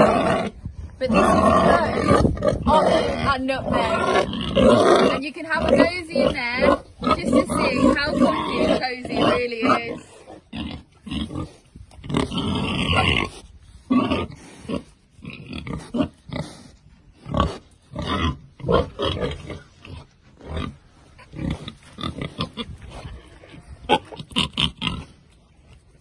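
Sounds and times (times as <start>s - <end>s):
pigs grunting: 0.0s - 25.3s.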